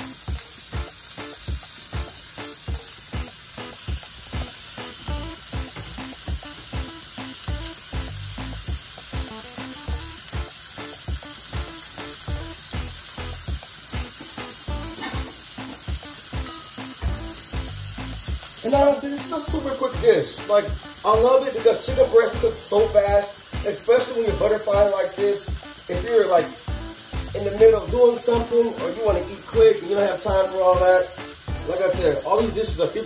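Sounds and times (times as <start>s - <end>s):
background music with steady beat: 0.0s - 33.0s
chicken sizzling in oil: 0.0s - 33.0s.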